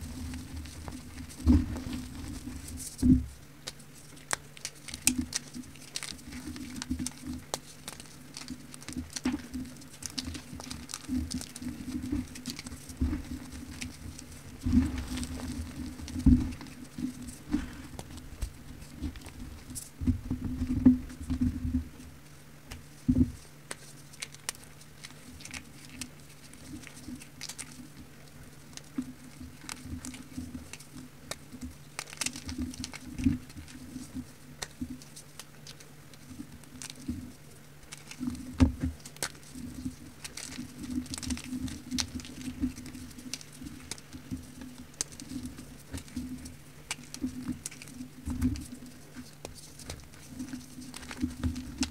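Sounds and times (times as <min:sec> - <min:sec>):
fingers crushing crumbly powder: 0:00.0 - 0:51.9.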